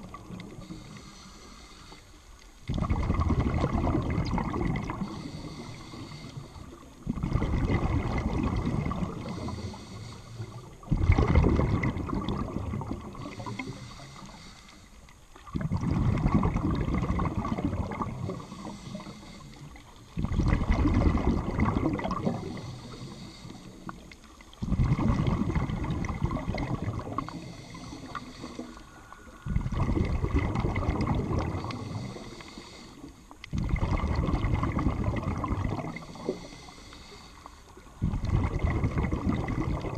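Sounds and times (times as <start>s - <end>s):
underwater exhaled bubbles gurgling: 0.0s - 39.9s.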